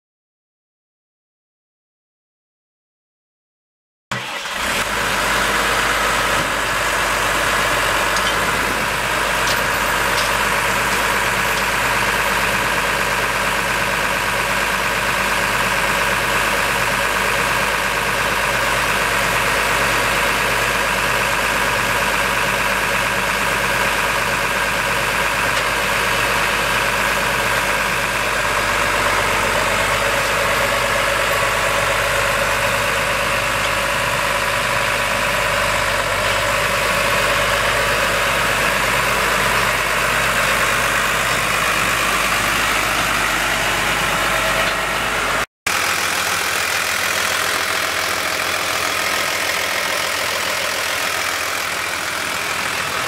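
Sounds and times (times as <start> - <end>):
diesel engine idling: 4.1 - 53.0.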